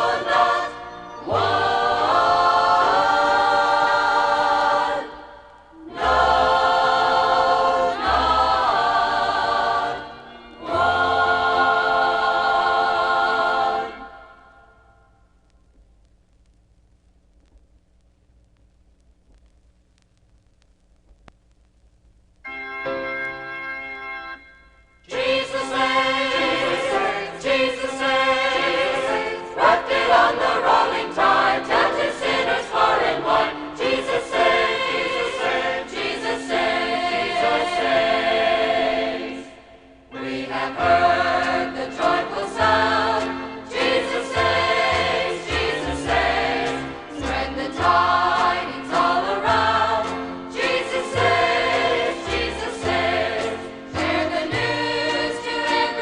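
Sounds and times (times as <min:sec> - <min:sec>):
choir singing a hymn: 0:00.0 - 0:14.7, 0:25.1 - 0:56.0.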